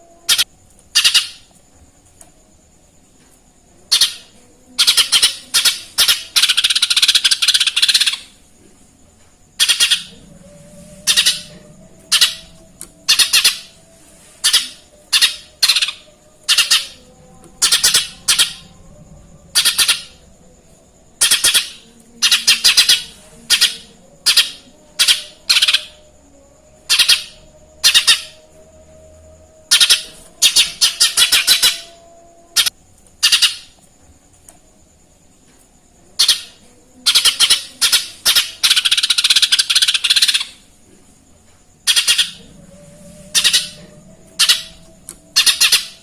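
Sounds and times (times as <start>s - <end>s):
small bird singing: 0.0s - 1.6s, 3.9s - 8.4s, 9.6s - 20.3s, 21.2s - 33.9s, 36.2s - 40.7s, 41.8s - 46.0s.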